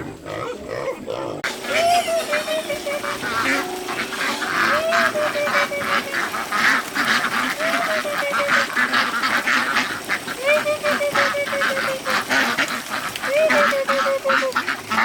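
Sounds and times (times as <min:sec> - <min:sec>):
waterfowl long rising calls: 0:00.0 - 0:15.0
waterfowl chattering short calls: 0:01.4 - 0:15.0.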